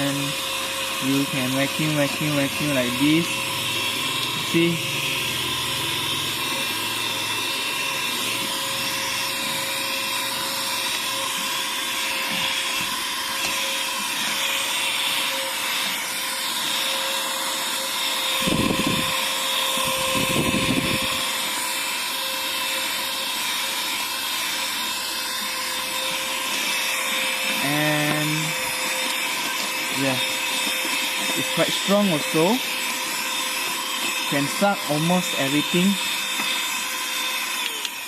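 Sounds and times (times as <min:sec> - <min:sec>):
handheld vacuum cleaner running: 0:00.0 - 0:38.0.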